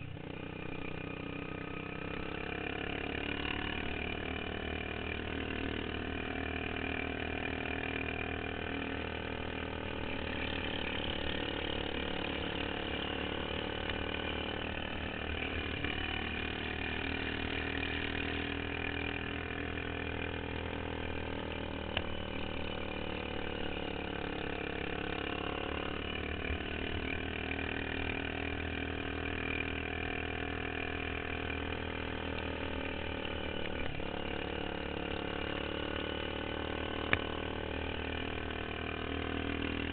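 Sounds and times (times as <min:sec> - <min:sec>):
lawn mower engine running hard: 0:00.1 - 0:39.9.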